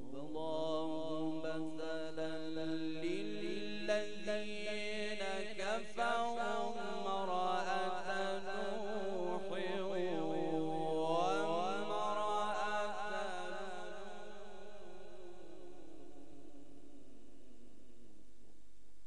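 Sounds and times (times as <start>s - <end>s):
man reciting melodic chant: 0.0s - 16.0s.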